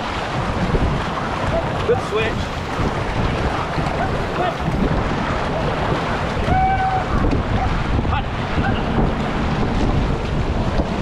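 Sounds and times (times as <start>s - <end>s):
whitewater rushing: 0.0s - 11.0s
wind buffeting microphone: 0.0s - 11.0s.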